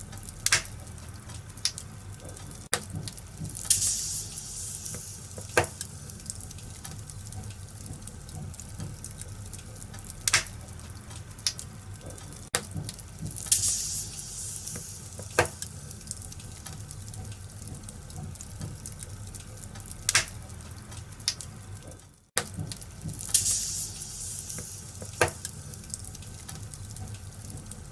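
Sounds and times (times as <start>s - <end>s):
wood fire crackling: 0.0s - 27.9s
fire sharp pops: 0.2s - 9.3s, 10.0s - 19.1s, 19.8s - 21.6s, 22.4s - 27.8s.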